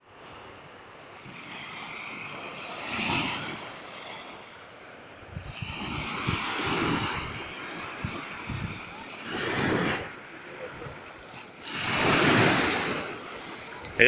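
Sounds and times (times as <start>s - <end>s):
sea waves breaking on shore: 0.0s - 14.0s.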